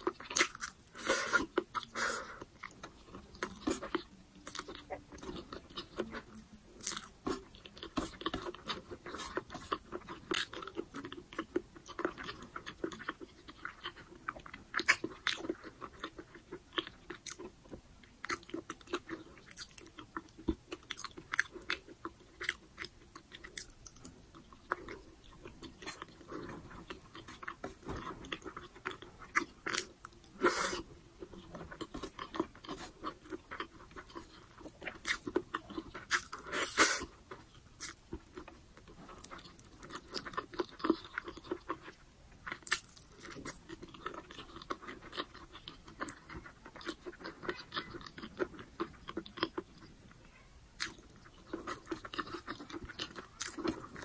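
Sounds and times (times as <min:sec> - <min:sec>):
person chewing with mouth clicks: 0:00.0 - 0:50.0, 0:50.8 - 0:54.0.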